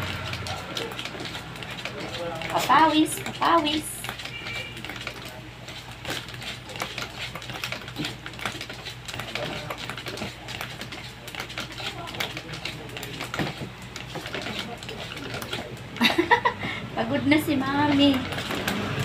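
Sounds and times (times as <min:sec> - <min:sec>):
pedal exerciser clicking and rattling: 0:00.0 - 0:19.0.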